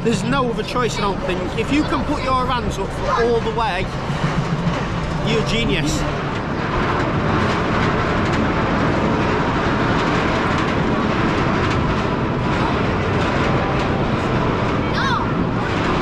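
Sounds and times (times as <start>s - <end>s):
roller coaster rumbling on track: 0.0s - 16.0s.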